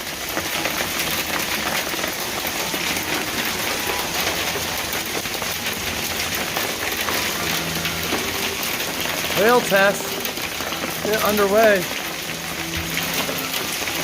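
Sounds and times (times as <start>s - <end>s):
hail hitting: 0.0s - 14.0s.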